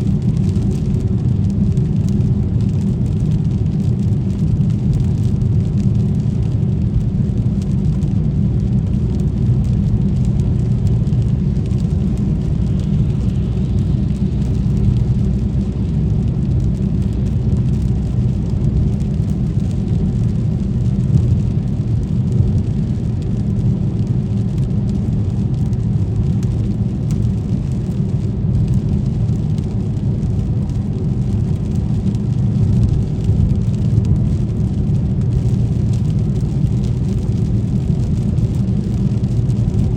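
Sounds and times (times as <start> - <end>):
car on wet road: 0.0 - 39.9.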